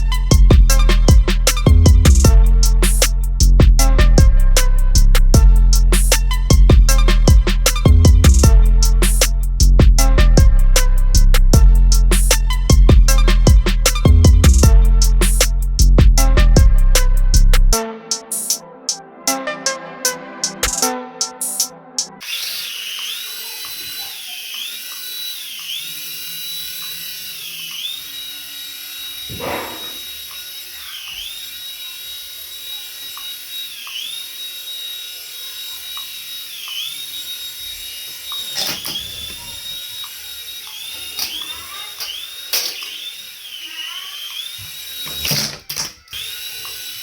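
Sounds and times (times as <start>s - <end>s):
toy electric motor whine: 0.0s - 3.5s, 4.6s - 9.7s, 10.9s - 15.9s, 21.4s - 47.0s.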